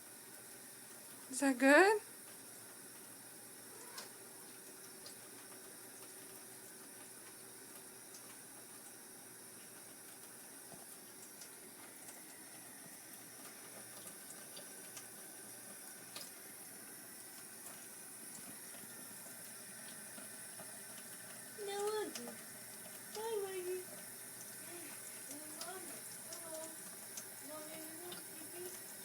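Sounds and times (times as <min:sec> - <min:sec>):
faucet running: 0:00.0 - 0:29.0.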